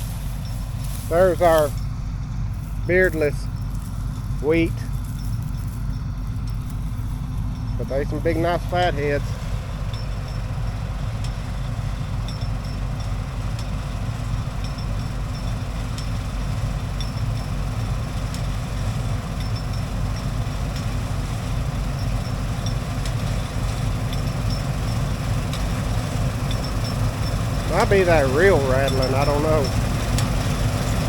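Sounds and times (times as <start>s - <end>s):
combine harvester engine drone: 0.0s - 31.0s
rattle ticking: 0.0s - 31.0s.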